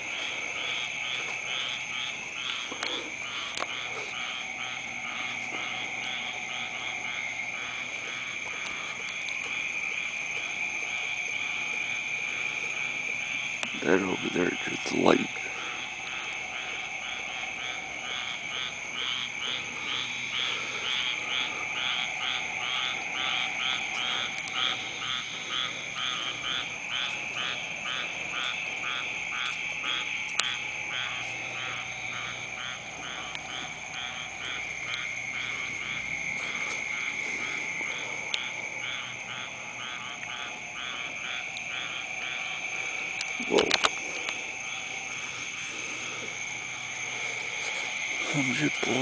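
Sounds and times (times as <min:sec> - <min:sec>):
frog croaking: 0:00.0 - 0:49.0
frogs trilling: 0:00.0 - 0:49.0.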